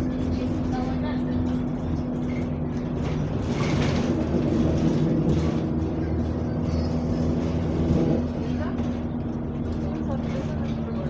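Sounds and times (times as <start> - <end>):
bus engine droning: 0.0 - 11.0
road noise: 0.0 - 11.0.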